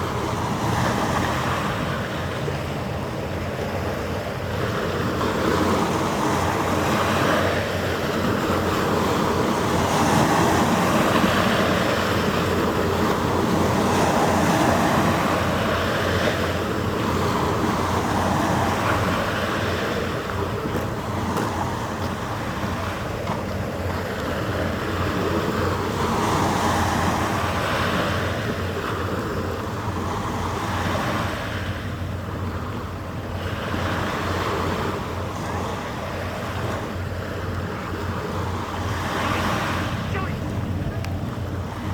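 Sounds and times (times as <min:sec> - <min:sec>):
wind: 0:00.0 - 0:41.9.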